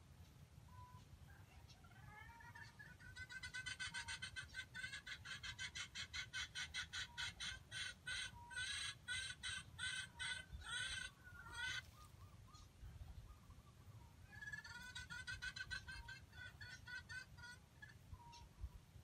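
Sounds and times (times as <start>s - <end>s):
chicken clucking: 0.7s - 18.6s.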